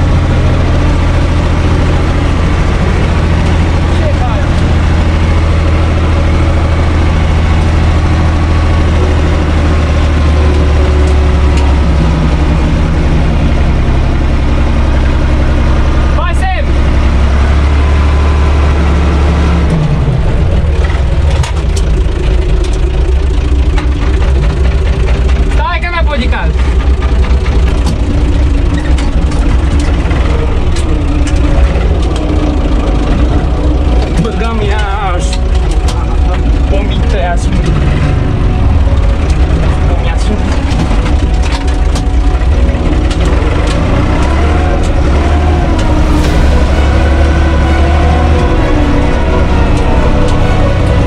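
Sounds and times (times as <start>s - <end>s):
diesel tractor engine idling: 0.0s - 51.0s.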